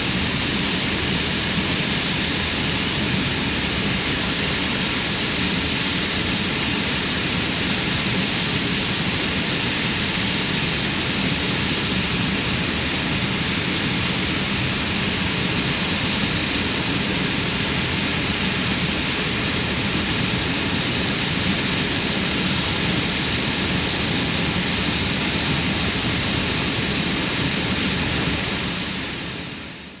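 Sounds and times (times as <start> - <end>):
water rushing over a weir: 0.0 - 30.0.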